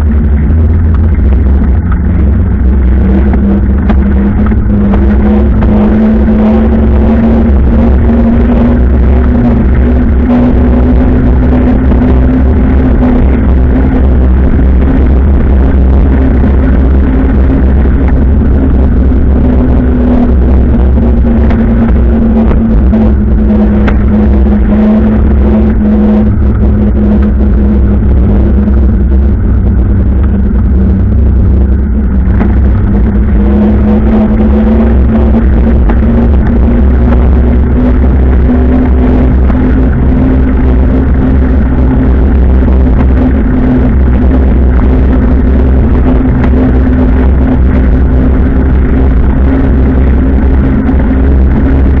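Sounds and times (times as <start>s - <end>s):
deep steady rumble: 0.0s - 52.0s
vehicle engine humming: 0.0s - 52.0s.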